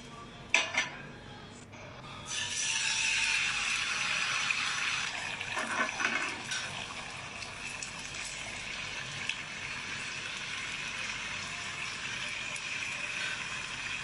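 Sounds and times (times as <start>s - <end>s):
tap water running: 2.4s - 14.0s.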